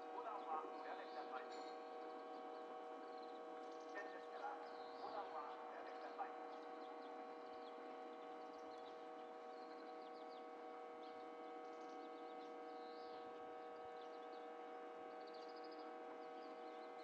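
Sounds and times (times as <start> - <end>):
small birds chirping: 0.2 - 14.5, 15.1 - 17.0.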